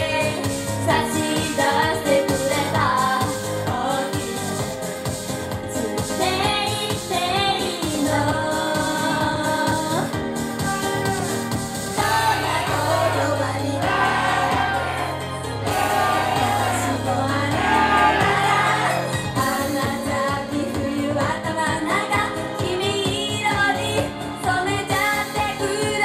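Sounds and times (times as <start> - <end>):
female voices singing pop song: 0.0 - 4.8, 5.7 - 11.3, 12.0 - 26.0
backing track with bass and beat: 0.0 - 26.0.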